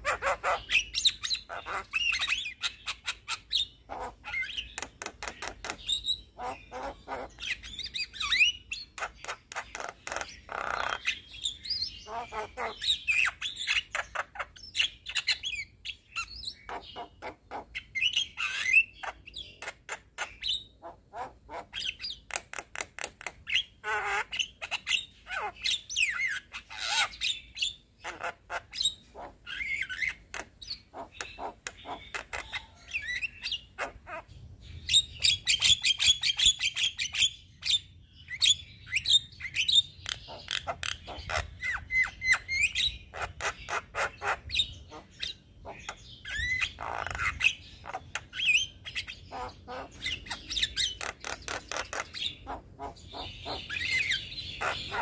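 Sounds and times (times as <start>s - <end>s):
myna bird singing: 0.0s - 55.0s.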